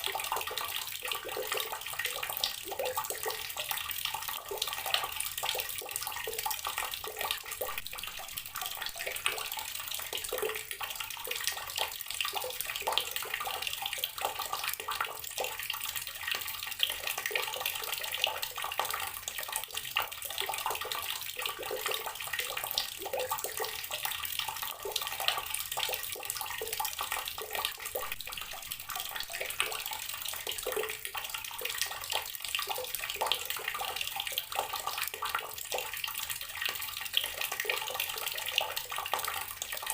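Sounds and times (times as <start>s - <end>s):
water running from a tap splashing: 0.0s - 39.9s.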